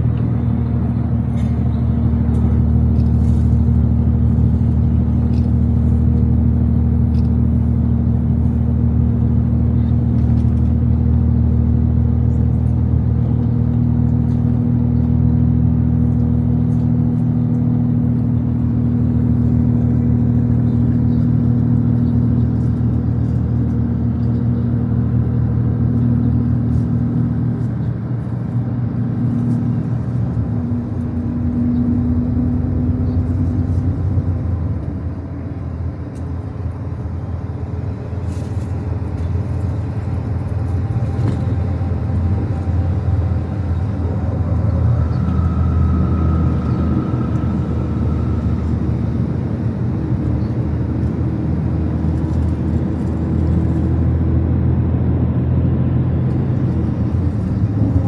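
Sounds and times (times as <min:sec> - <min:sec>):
vehicle engine hum and road noise: 0:00.0 - 0:58.0.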